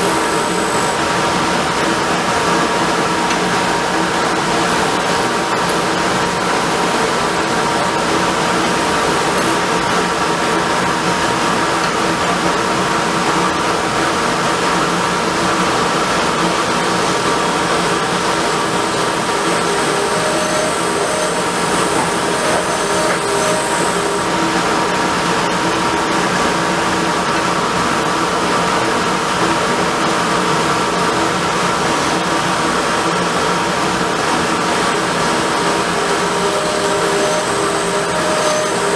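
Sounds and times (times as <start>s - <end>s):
wood lathe motor whine: 0.0s - 38.9s.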